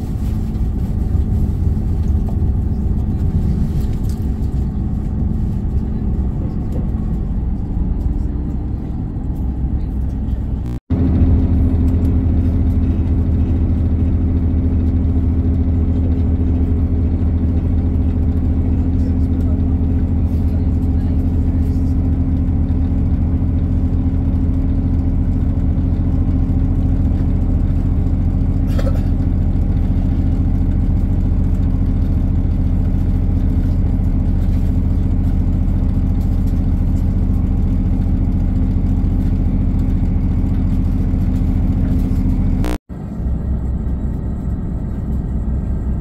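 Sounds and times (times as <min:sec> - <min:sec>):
quiet rumble: 0:00.0 - 0:46.0
train diesel engine drone: 0:00.0 - 0:46.0.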